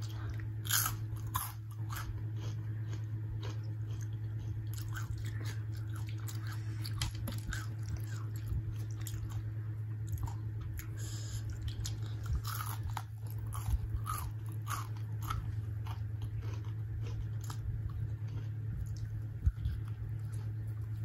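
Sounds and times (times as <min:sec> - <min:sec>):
crunching fried chicken: 0:00.0 - 0:21.0
soft chewing: 0:00.0 - 0:21.0
steady low hum: 0:00.0 - 0:21.0.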